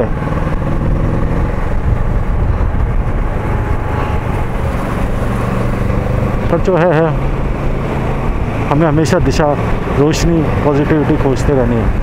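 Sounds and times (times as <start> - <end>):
motorcycle engine droning: 0.0 - 12.0
road noise: 0.0 - 12.0.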